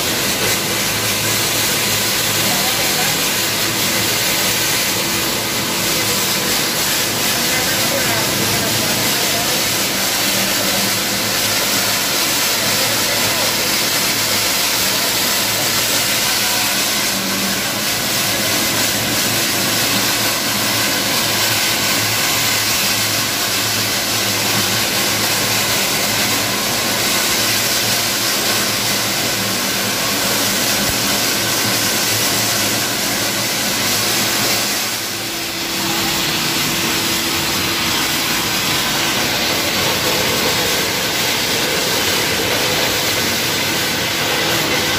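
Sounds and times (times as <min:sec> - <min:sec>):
steady hum: 0:00.0 - 0:44.9.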